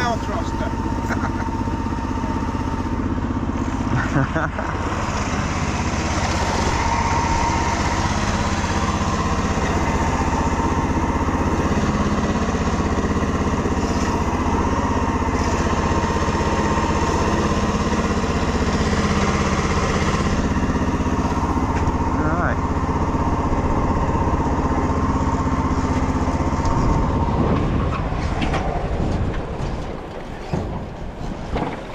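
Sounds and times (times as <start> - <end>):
small four-stroke engine running: 0.0 - 31.9.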